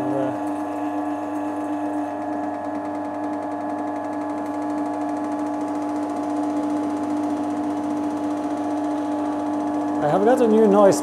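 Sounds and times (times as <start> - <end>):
bench drill motor hum: 0.0 - 11.0.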